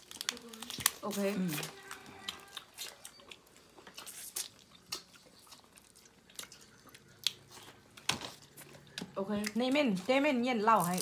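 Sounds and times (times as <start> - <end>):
chewing: 0.0 - 10.1.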